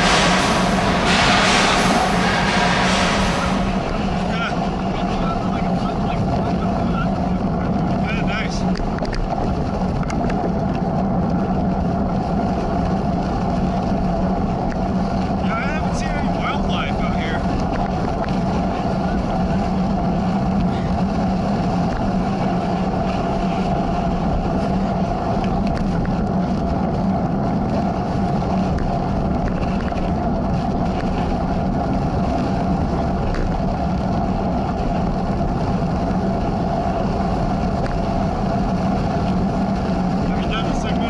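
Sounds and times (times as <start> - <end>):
bike tyre rumble on dirt: 0.0 - 41.0
wind on microphone: 0.0 - 41.0.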